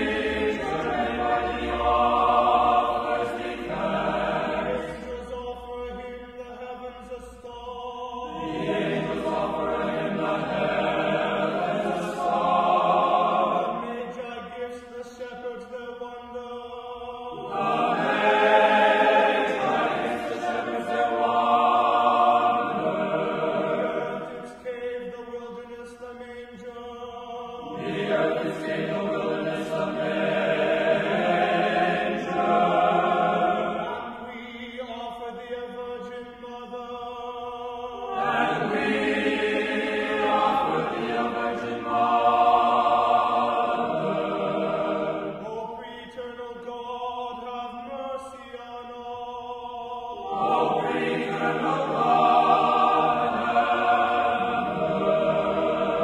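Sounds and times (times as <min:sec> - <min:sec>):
choir singing a slow chant: 0:00.0 - 0:56.0.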